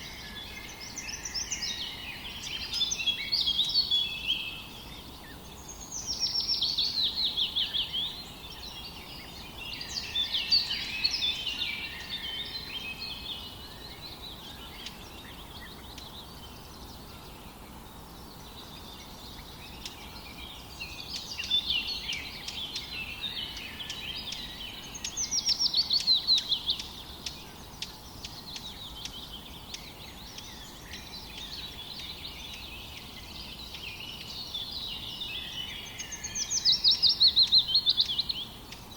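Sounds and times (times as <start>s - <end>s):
background hiss: 0.0s - 38.9s
songbirds singing: 0.0s - 38.9s.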